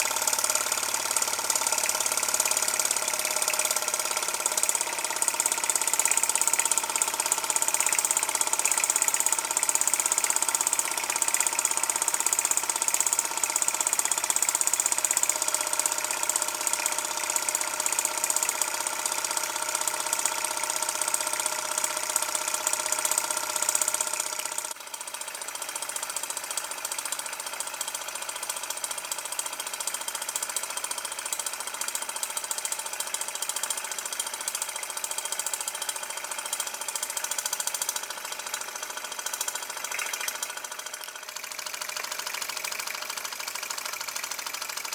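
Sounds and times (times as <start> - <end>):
model steam engine running: 0.0 - 44.9.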